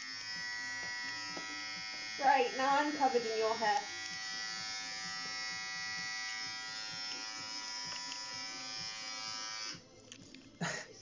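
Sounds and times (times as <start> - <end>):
electric hair clippers buzzing: 0.0 - 9.9.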